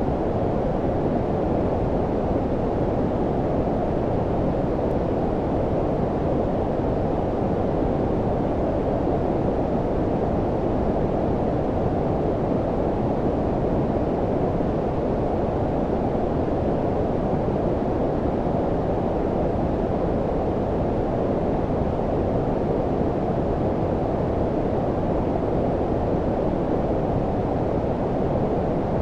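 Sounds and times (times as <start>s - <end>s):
deep muffled brown noise: 0.0s - 29.0s.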